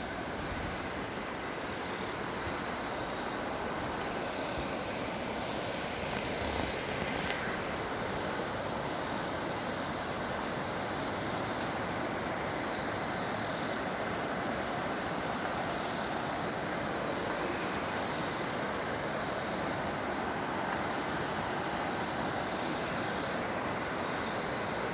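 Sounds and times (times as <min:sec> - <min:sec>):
river rushing over rocks: 0:00.0 - 0:24.9.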